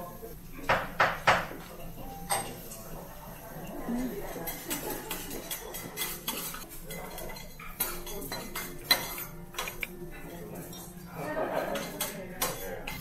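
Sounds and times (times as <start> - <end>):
utensils clinking on ceramic dishes: 0.6 - 13.0.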